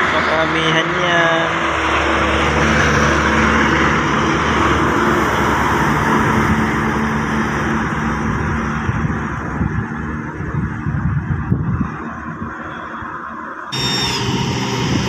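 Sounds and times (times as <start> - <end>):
bus diesel engine driving past: 0.0 - 10.5, 13.3 - 15.0.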